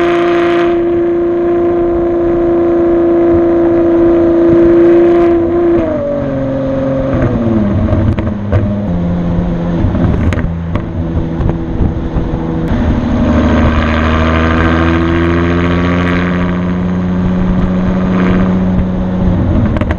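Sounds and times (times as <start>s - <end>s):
car engine revving: 0.0s - 19.9s
road and wind noise: 0.0s - 19.9s.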